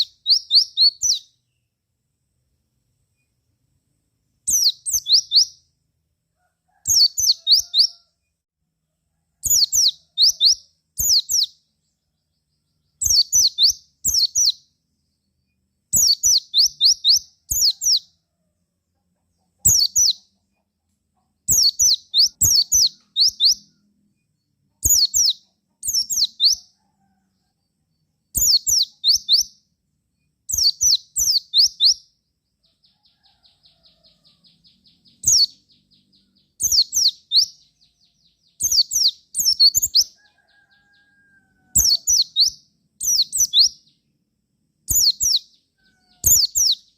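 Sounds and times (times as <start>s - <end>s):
bird chirping: 0.0s - 1.9s, 3.0s - 5.8s, 6.7s - 8.4s, 9.4s - 46.9s.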